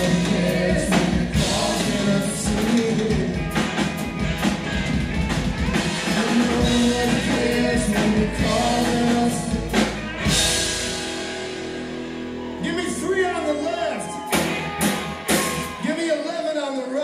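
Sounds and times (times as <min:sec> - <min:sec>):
live rock band with singing: 0:00.0 - 0:16.3.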